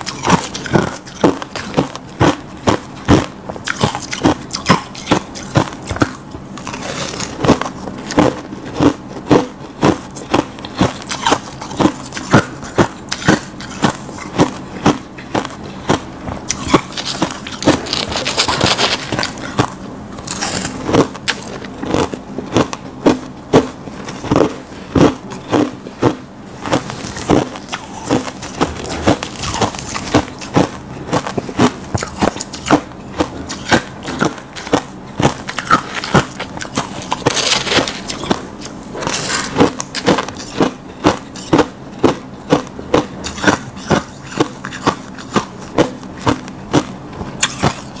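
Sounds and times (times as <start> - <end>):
ice crunched between teeth: 0.0 - 22.8, 24.1 - 48.0.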